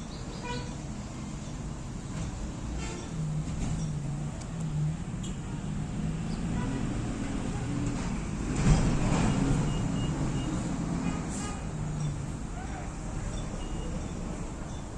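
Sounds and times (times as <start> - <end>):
road traffic drone: 0.0 - 14.9.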